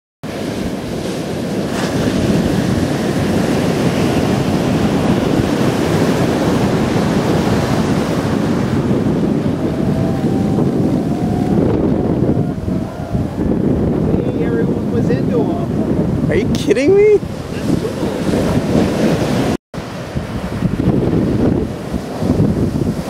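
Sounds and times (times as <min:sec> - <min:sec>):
surf breaking and rushing: 0:00.2 - 0:23.0
wind buffeting microphone: 0:00.2 - 0:23.0.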